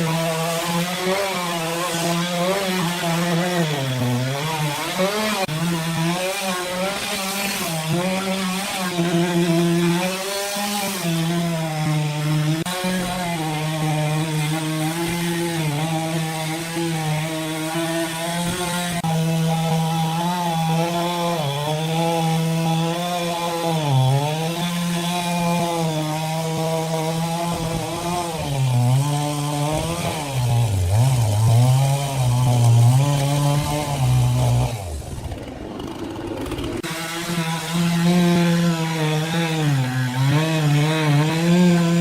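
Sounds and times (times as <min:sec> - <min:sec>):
engine-driven sawmill saw cutting: 0:00.0 - 0:42.0.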